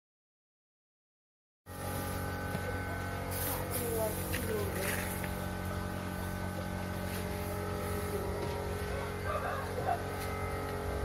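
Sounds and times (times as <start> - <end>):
steady mechanical hum: 1.7 - 11.0.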